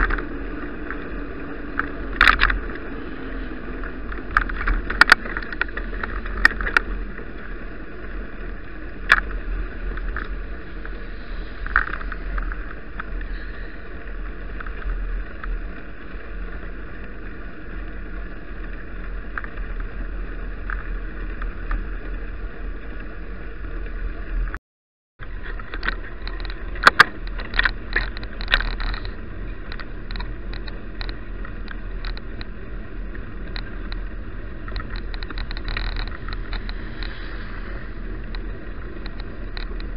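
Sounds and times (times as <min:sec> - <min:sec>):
bike clicking and rattling: 0:00.0 - 0:24.5, 0:25.2 - 0:39.9
bicycle tyres on snow: 0:00.0 - 0:24.6, 0:25.2 - 0:39.9
wind rumble on microphone: 0:00.0 - 0:24.6, 0:25.2 - 0:39.9.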